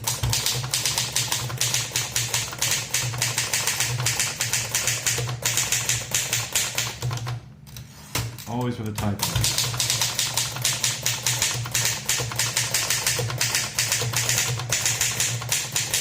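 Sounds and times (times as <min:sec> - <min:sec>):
manual typewriter typing: 0:00.0 - 0:07.4, 0:08.5 - 0:16.0.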